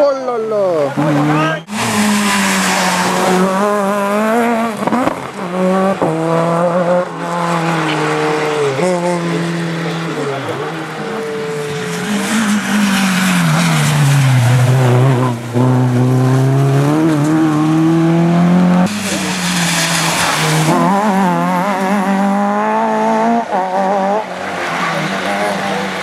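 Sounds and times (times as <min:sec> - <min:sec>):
tyres skidding: 0:00.0 - 0:26.0
rally car engine revving: 0:00.5 - 0:26.0.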